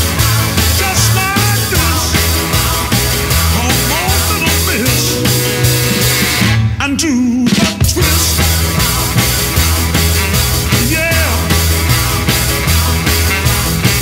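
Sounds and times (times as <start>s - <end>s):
rock music with drum beat: 0.0s - 14.0s.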